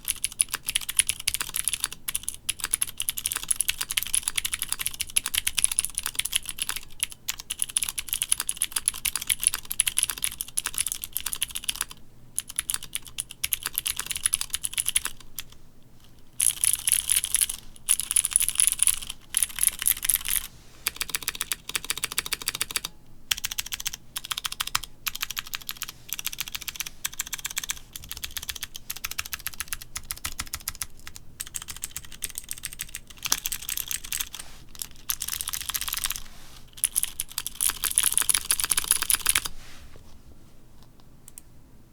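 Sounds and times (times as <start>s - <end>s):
fast typing on mechanical keyboard: 0.0s - 15.6s, 16.4s - 39.5s.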